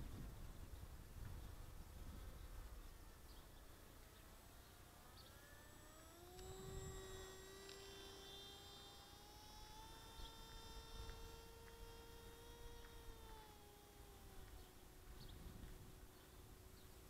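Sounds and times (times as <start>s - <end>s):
distant electric model plane whining: 0.0s - 17.0s.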